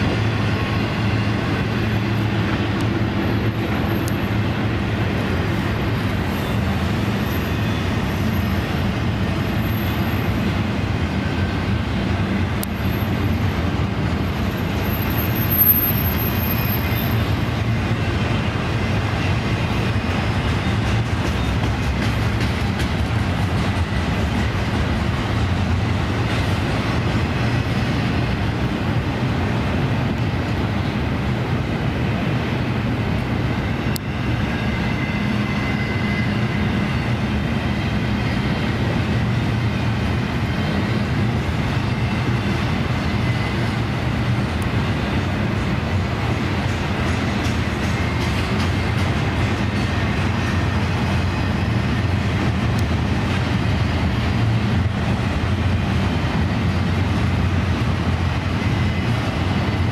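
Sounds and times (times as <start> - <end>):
rail-joint clicking: 0.0 - 30.8, 38.5 - 59.9
train wheels rumbling on rails: 0.0 - 59.9.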